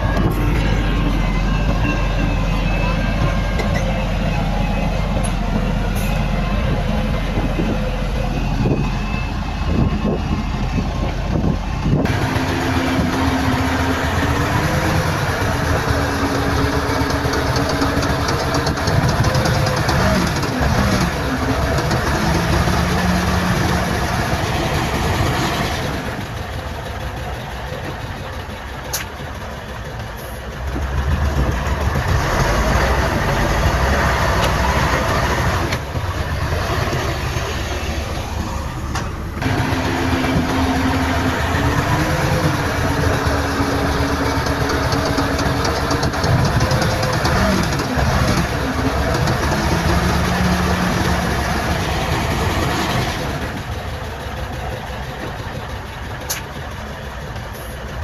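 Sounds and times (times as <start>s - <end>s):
diesel engines of earthmoving machinery: 0.0s - 58.0s.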